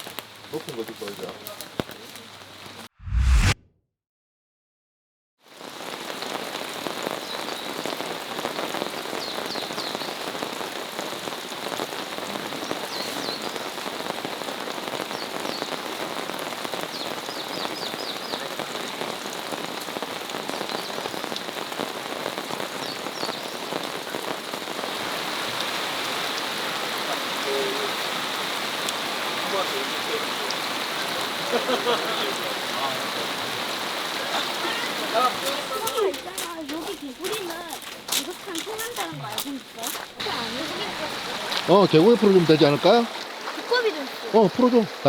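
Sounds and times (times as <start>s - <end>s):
rain falling: 0.0s - 2.9s, 5.5s - 45.0s.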